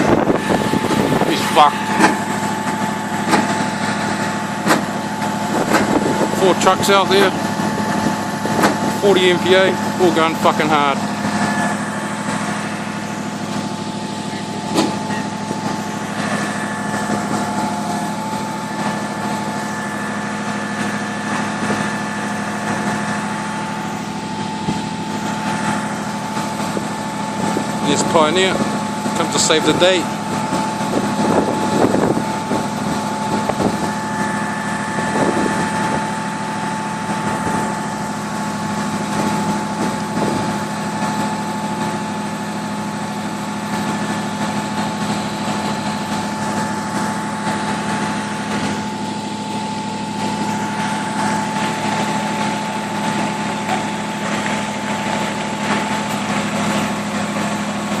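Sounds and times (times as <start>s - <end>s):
diesel truck engines running: 0.0s - 58.0s
higher-pitched hum: 0.0s - 58.0s.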